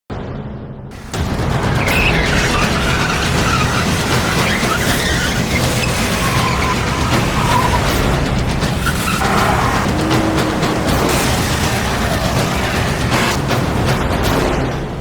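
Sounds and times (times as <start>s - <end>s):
car engine and road noise: 0.9s - 15.0s
tyres squealing: 1.0s - 14.0s.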